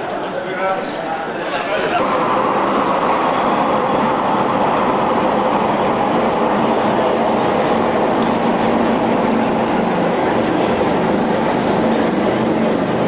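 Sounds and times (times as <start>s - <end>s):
subway train rail noise: 0.0s - 13.0s.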